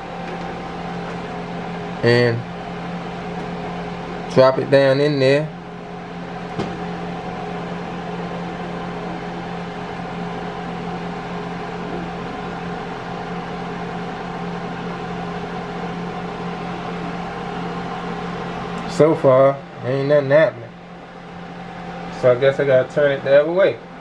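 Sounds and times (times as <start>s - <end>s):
machine hum with whir: 0.0s - 24.0s.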